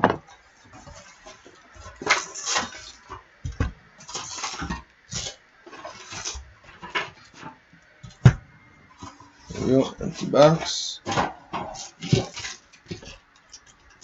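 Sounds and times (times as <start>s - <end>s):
foil wrappers rustling: 0.0s - 7.6s, 8.9s - 14.0s.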